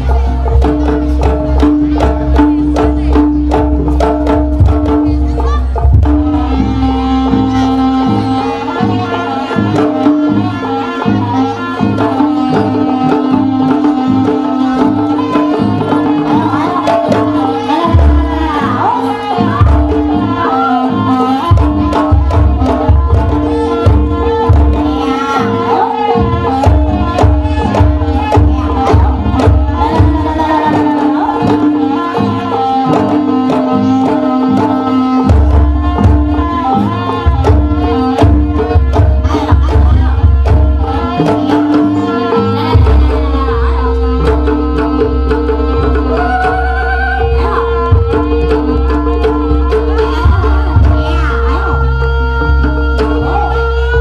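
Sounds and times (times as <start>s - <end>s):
hand drums beating quick rhythm: 0.0s - 54.0s.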